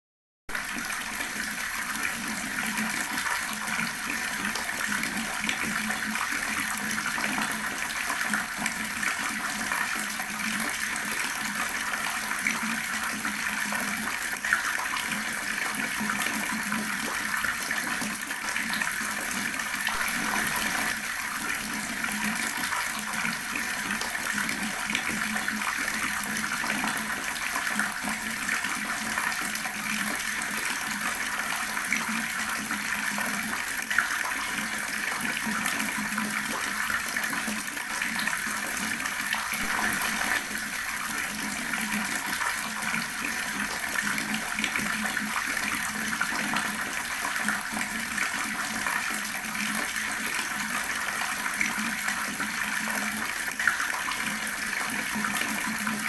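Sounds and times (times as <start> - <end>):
tap water running and splashing: 0.5 - 56.0.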